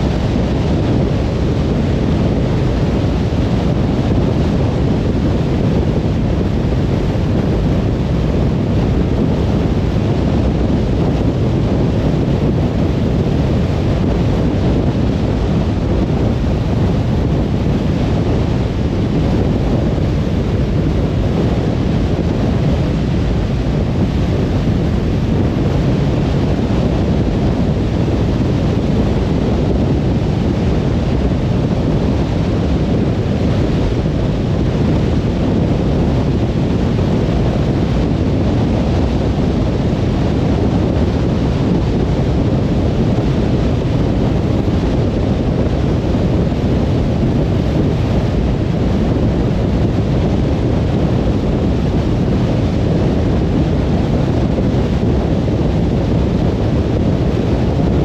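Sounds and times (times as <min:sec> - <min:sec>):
car tyre and wind rumble: 0:00.0 - 0:58.0.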